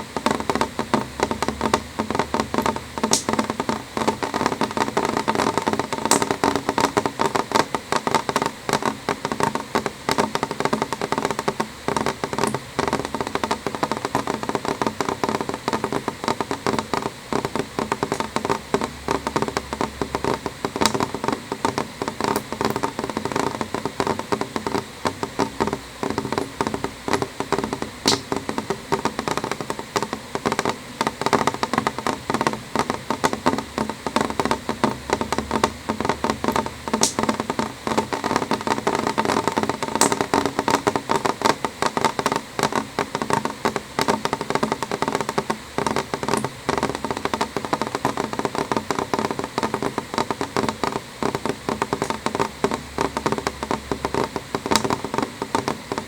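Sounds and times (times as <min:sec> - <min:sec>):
rain tapping on window glass: 0:00.0 - 0:56.0.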